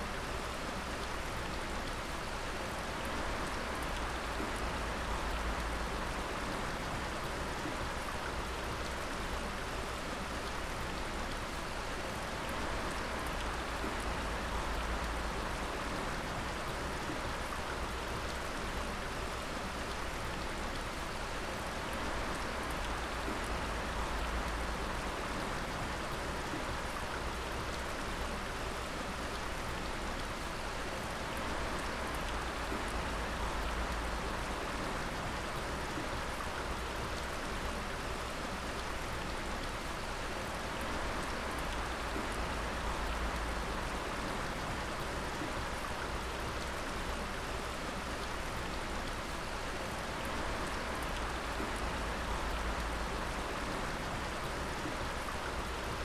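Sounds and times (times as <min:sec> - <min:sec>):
water dripping and splashing: 0:03.0 - 0:56.0.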